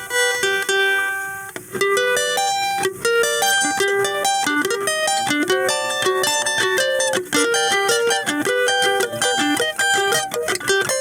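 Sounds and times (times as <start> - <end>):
plucked string instrument melody: 0.0 - 11.0.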